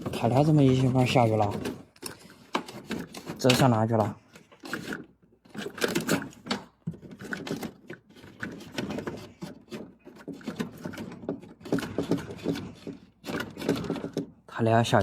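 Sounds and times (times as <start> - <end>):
cables scraping and clicking: 0.0 - 14.4
hands rustling electrical wires: 0.0 - 15.0.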